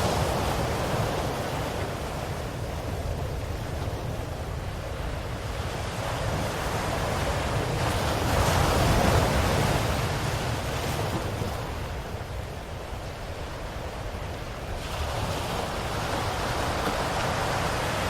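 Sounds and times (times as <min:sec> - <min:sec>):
ocean wave breaking: 0:00.0 - 0:12.5, 0:13.2 - 0:18.0
low rumble of surf: 0:00.0 - 0:18.0.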